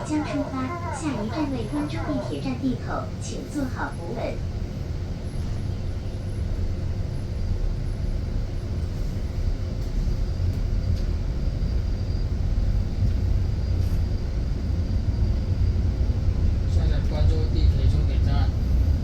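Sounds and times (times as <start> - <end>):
bus cabin rumble: 0.0 - 19.0.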